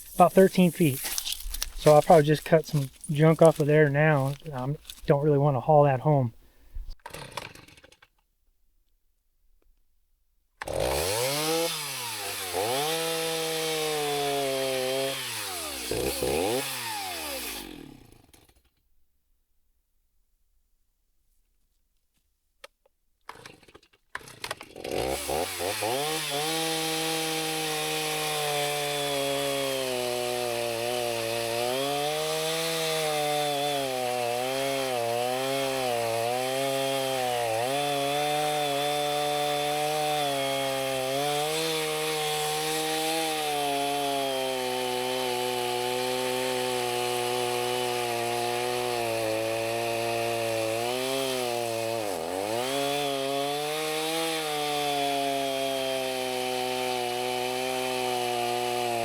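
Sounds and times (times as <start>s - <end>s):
chainsaw cutting log: 0.0s - 6.2s, 6.9s - 8.1s, 10.6s - 18.8s, 23.2s - 59.0s.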